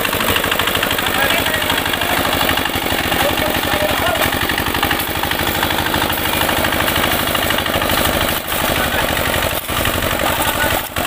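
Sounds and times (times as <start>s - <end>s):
diesel engine chugging: 0.0s - 11.0s
wheels churning wet concrete: 0.0s - 11.0s.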